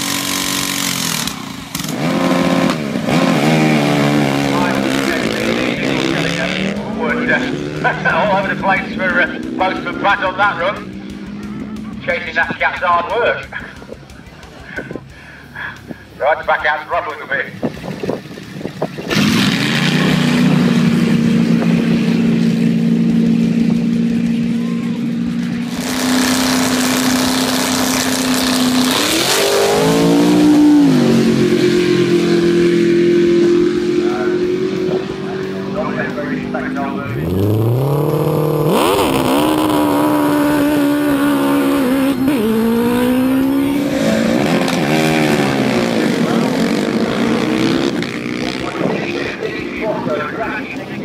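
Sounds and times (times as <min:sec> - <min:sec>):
drag car engines at full throttle: 0:00.0 - 0:51.0.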